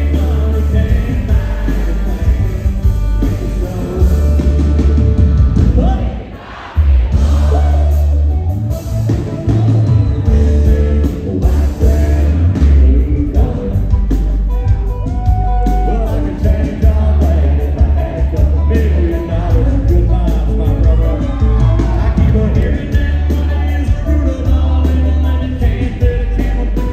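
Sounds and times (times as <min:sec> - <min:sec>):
man singing: 0:00.0 - 0:06.3, 0:10.2 - 0:26.9
heavy bass: 0:00.0 - 0:26.9
live country band: 0:00.0 - 0:26.9.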